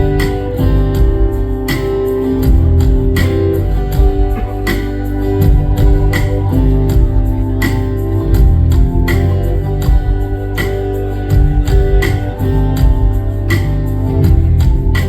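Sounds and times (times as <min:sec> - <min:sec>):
guitar chords: 0:00.0 - 0:15.0
live band playing: 0:00.0 - 0:15.0.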